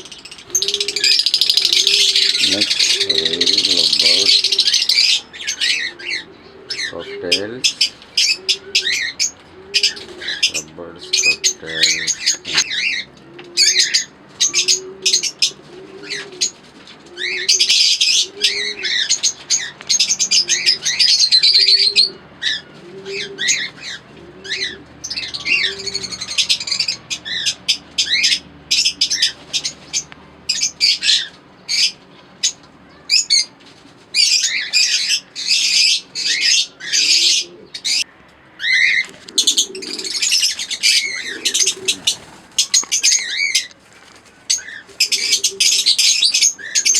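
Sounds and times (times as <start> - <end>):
birds chirping in bursts: 0.0 - 46.9
pigeon cooing: 0.0 - 46.9.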